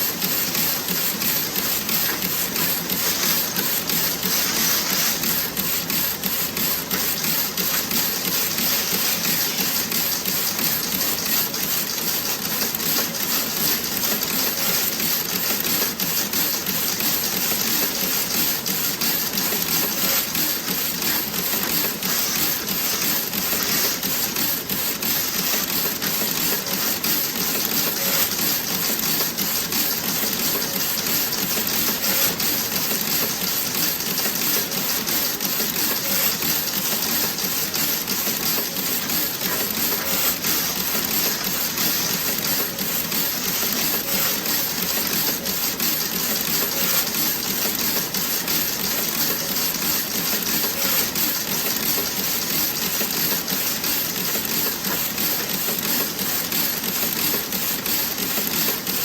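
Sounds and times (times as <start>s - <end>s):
knitting machine clattering: 0.0s - 59.0s.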